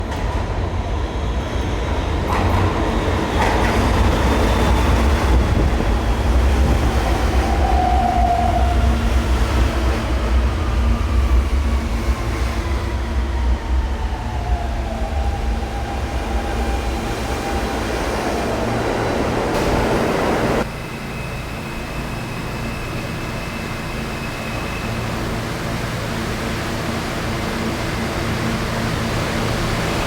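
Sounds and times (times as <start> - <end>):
subway train rumble: 0.0 - 30.0.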